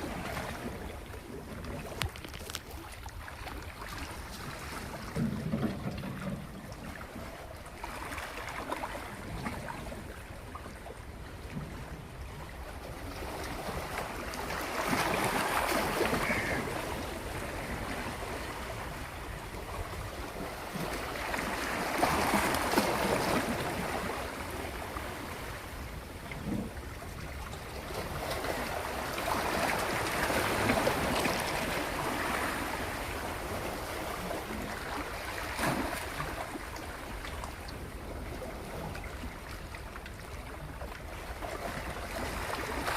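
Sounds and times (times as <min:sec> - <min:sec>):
sea water washing in swells: 0:00.0 - 0:42.9.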